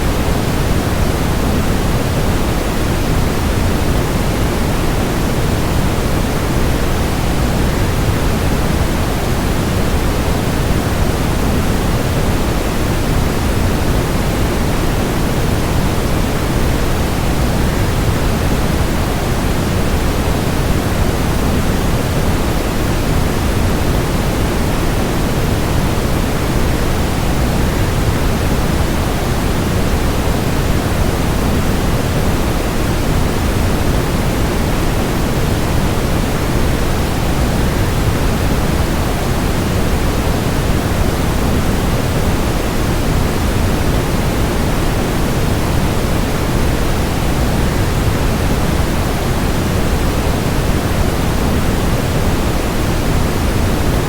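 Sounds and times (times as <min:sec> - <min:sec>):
white noise: 0:00.0 - 0:54.0.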